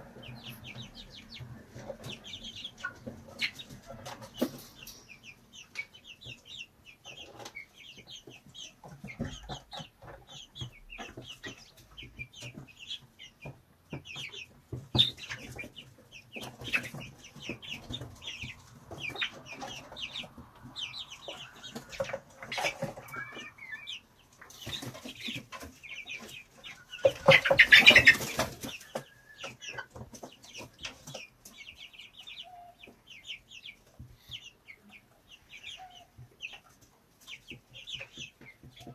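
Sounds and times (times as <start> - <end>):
chicks peeping: 0.0 - 38.9
hen clucking: 0.0 - 38.9.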